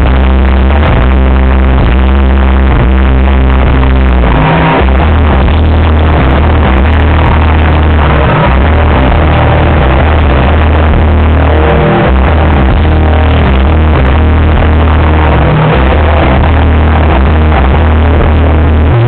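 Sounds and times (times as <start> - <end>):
heavy pounding bass: 0.0 - 19.0
live band playing loudly: 0.0 - 19.0.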